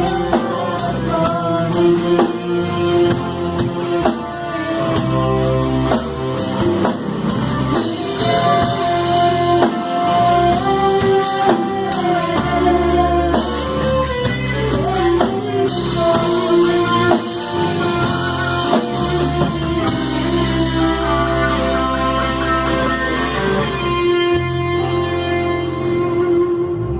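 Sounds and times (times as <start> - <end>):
worship band music: 0.0 - 26.9.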